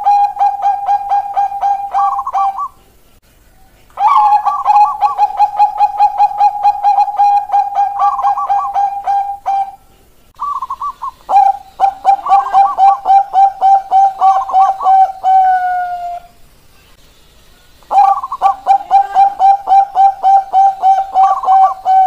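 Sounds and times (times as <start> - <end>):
dove cooing: 0.0 - 2.8, 4.0 - 16.4, 17.9 - 22.0.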